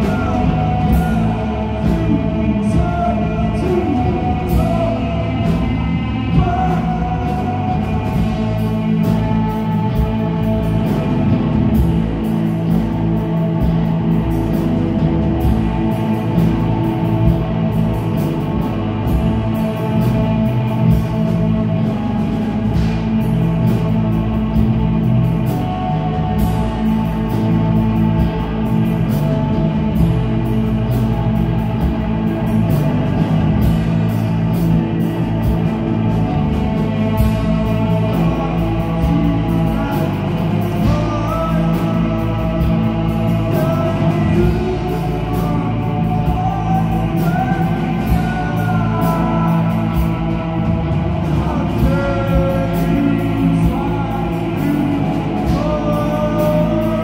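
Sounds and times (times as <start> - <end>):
melodic guitar lead line: 0.0 - 57.0
rock band playing live: 0.0 - 57.0.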